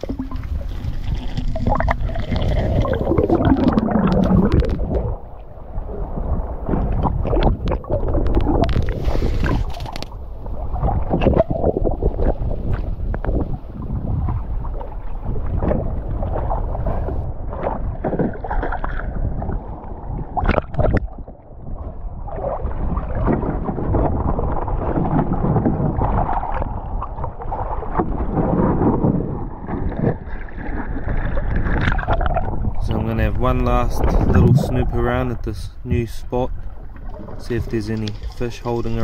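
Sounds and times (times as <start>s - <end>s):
water sloshing and splashing: 0.0s - 39.0s
wind on microphone: 0.0s - 39.0s.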